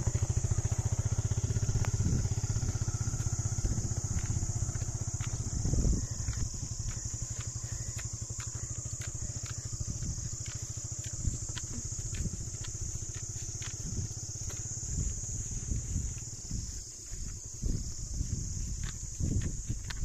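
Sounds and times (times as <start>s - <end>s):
crickets buzzing: 0.0s - 20.0s
motorcycle engine at low revs: 0.0s - 20.0s.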